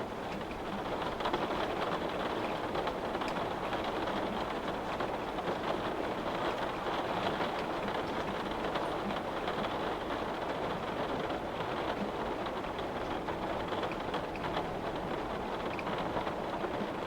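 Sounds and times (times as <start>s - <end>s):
rain pattering on window: 0.0s - 17.0s.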